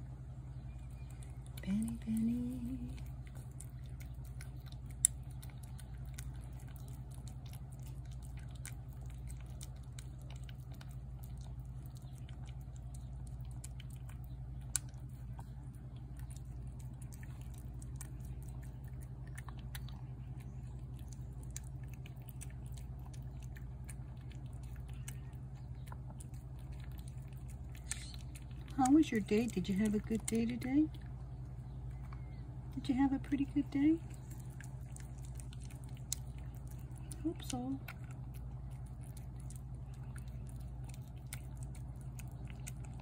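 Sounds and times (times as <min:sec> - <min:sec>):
cat chewing wet food: 0:00.0 - 0:43.0.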